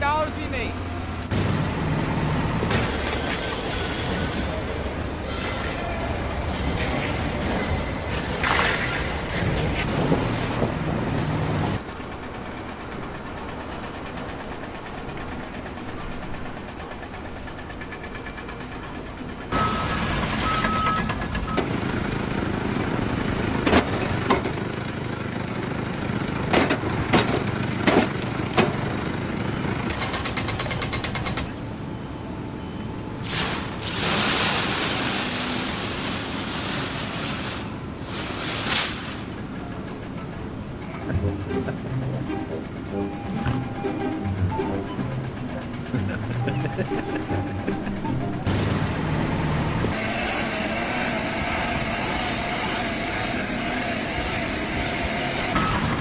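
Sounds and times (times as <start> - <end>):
construction machinery: 0.0 - 56.0.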